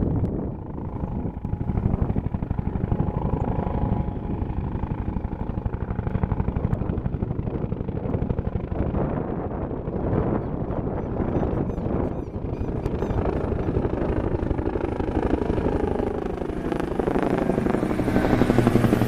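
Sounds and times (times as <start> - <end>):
helicopter rotor beating: 0.0 - 19.0
turbine whine: 0.0 - 19.0.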